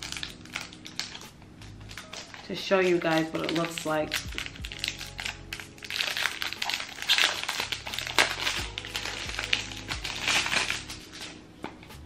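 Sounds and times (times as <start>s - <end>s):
plastic wrapping crinkling: 0.0s - 11.9s
soft background music: 0.0s - 12.0s.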